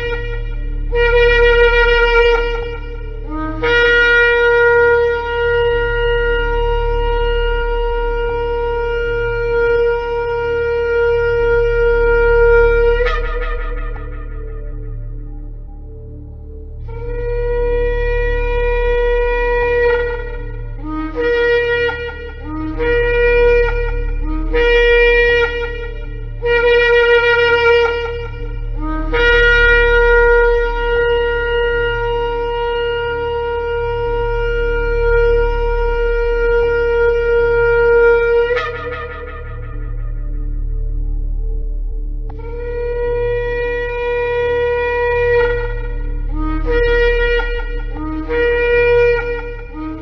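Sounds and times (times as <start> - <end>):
shofar blasts: 0.0 - 16.2, 16.8 - 50.0
steady low hum: 0.0 - 50.0.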